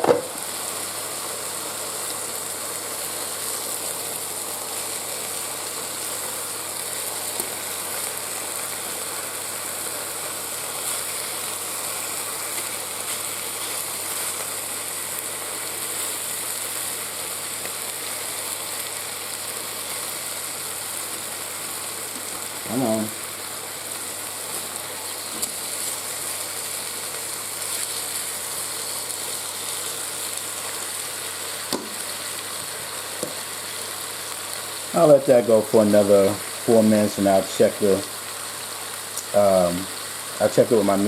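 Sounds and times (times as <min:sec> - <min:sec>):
chicken sizzling in butter: 0:00.0 - 0:41.0.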